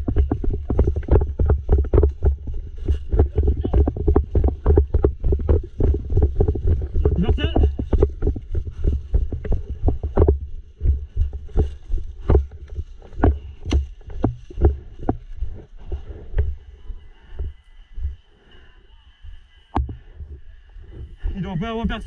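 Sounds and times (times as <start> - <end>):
footsteps with dull thumps: 0.0 - 18.4, 19.3 - 22.0
faint outdoor background noise: 0.0 - 22.0.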